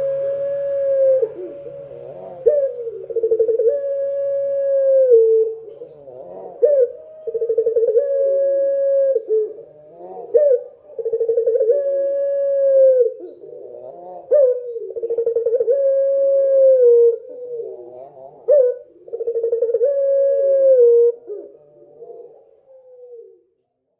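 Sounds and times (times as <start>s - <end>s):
dove cooing: 0.0s - 23.6s.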